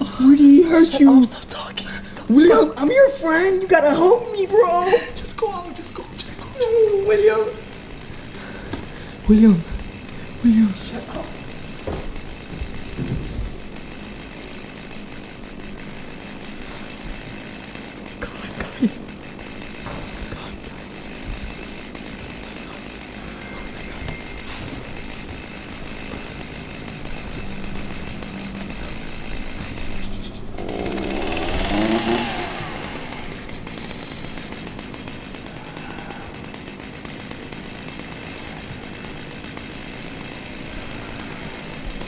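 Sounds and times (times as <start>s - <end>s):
chainsaw engine running: 0.0s - 42.0s.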